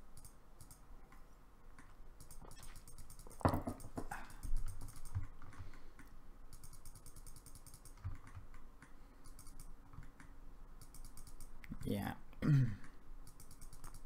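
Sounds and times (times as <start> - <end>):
mouse and keyboard clicking: 0.1 - 1.2, 1.8 - 11.9, 13.2 - 14.0.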